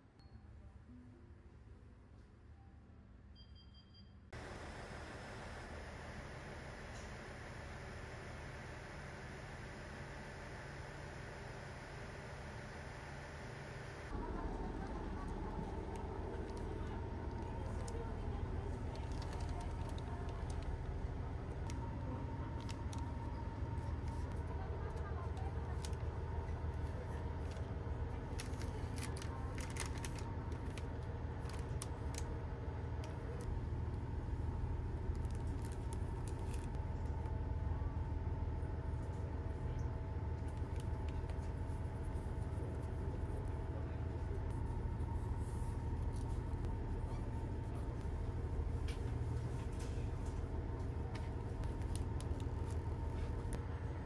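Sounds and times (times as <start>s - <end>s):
train diesel engine hum: 4.4s - 54.0s.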